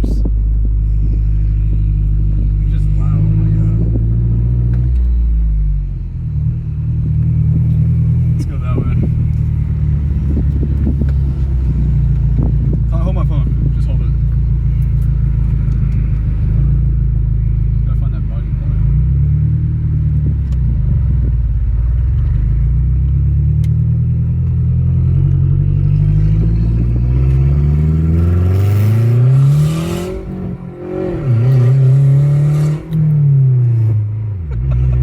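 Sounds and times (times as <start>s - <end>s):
loud car engine revving: 0.0s - 35.0s.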